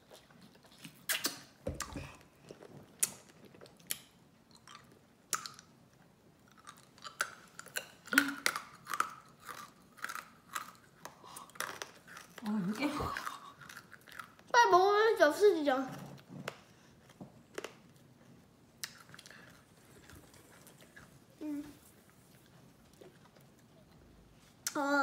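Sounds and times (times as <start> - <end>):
child chewing candy: 0.0 - 14.6, 15.6 - 24.8.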